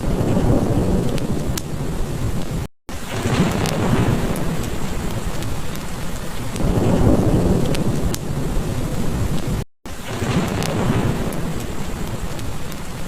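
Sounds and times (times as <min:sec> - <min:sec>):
low rolling thunder: 0:00.0 - 0:12.8
heavy rain falling: 0:00.0 - 0:13.0
wood fire crackling: 0:00.0 - 0:13.0.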